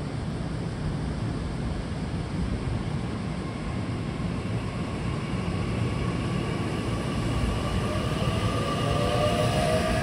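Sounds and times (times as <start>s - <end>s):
train wheels rumbling on rail: 1.2s - 10.0s.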